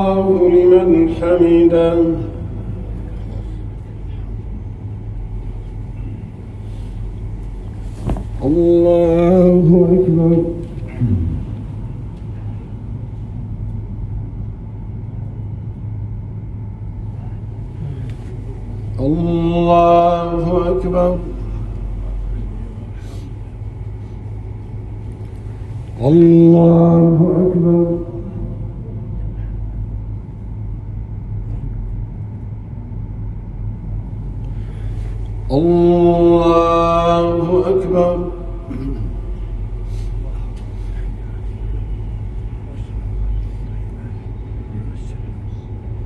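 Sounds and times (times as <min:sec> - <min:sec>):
low rumble: 0:00.0 - 0:46.0
steady low hum: 0:00.0 - 0:46.0.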